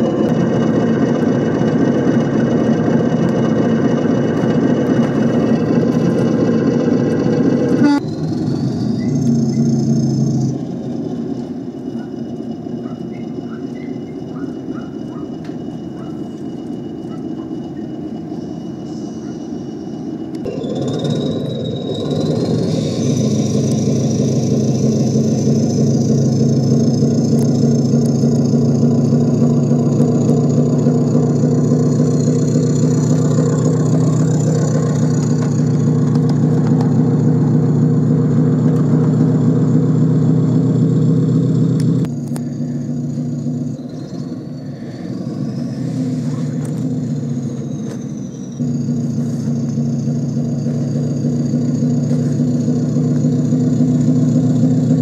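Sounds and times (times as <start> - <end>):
thin high whine: 0.0 - 40.2, 42.0 - 54.4
engine drone: 0.0 - 55.0.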